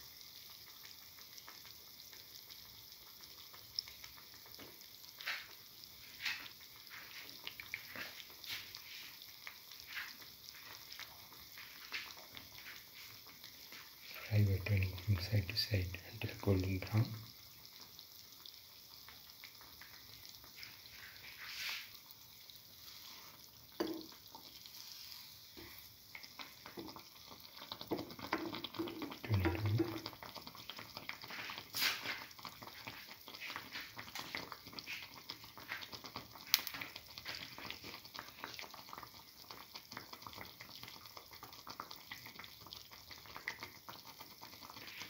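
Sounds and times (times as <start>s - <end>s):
fritter sizzling in hot oil: 0.0s - 45.0s.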